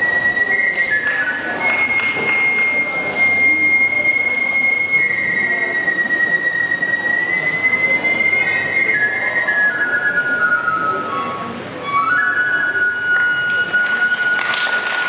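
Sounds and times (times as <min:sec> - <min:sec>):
flute holding high note: 0:00.0 - 0:15.0.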